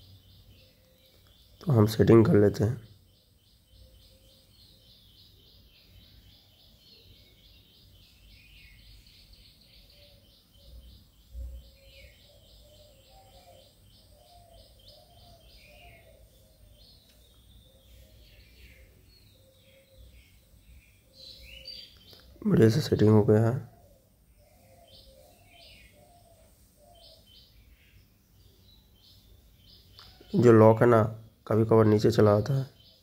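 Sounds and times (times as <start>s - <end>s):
faint bird chirping: 0.0s - 33.0s.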